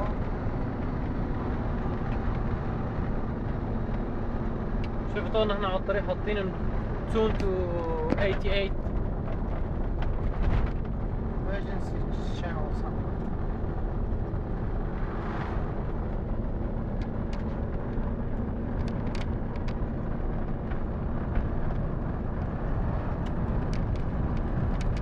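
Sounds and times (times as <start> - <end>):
road and engine noise in car: 0.0 - 25.0.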